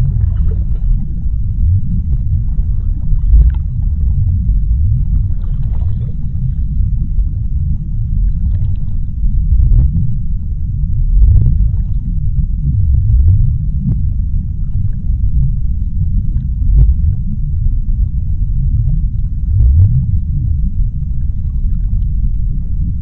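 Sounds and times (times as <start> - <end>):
faint crackles and ticks: 0.0 - 23.0
underwater low rumble: 0.0 - 23.0.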